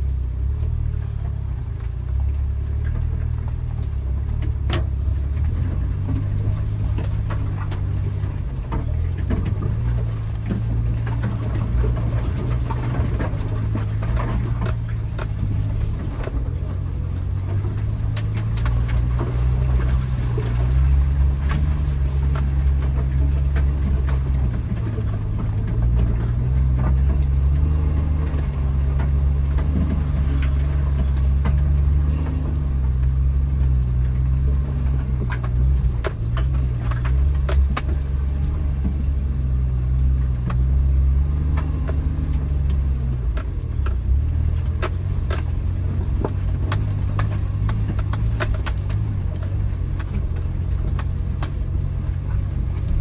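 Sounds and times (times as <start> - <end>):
car engine droning: 0.0 - 53.0
knocks and rattles: 2.8 - 53.0.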